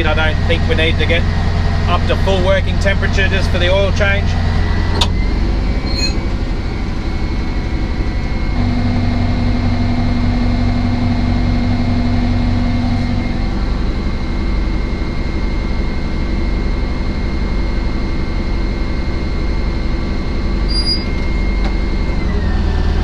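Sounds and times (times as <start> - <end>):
bulldozer diesel engine running: 0.0 - 23.0
steady whine: 0.0 - 23.0.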